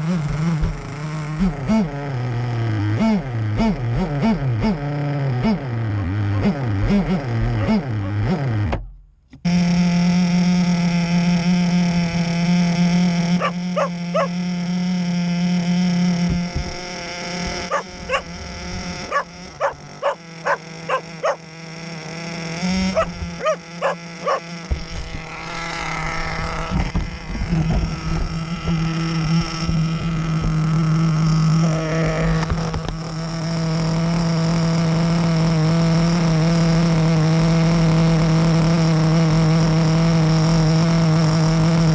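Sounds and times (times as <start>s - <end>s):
small engine buzzing drone: 0.0s - 41.9s.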